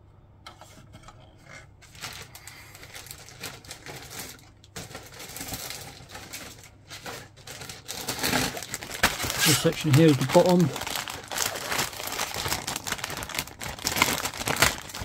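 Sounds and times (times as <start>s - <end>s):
plastic parts clicking and rustling: 1.9s - 15.0s.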